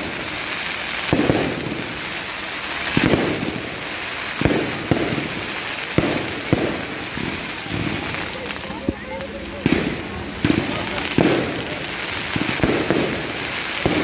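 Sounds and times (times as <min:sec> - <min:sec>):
fireworks bangs: 0:00.0 - 0:14.0
fireworks hissing crackle: 0:00.0 - 0:14.0.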